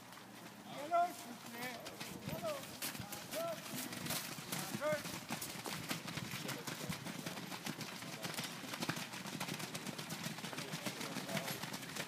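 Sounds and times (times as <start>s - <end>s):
horse hoofbeats on dirt: 0.0s - 12.0s.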